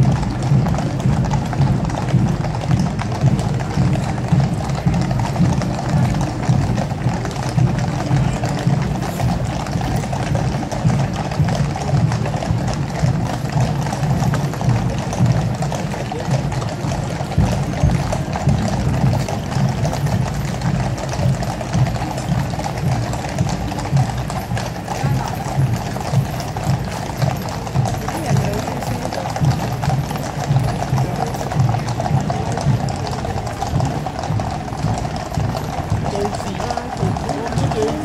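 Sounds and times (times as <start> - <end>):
horses hooves clip-clopping on road: 0.0 - 38.0.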